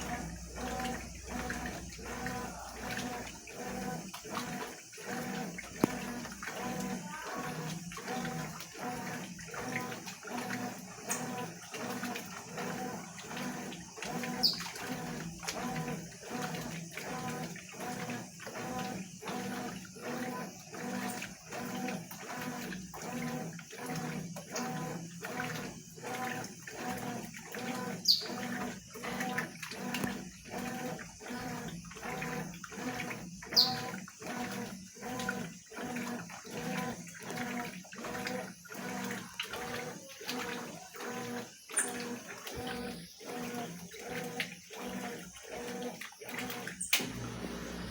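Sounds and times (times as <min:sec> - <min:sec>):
motor hum: 0:00.0 - 0:47.9
washing machine water sloshing: 0:00.0 - 0:47.9.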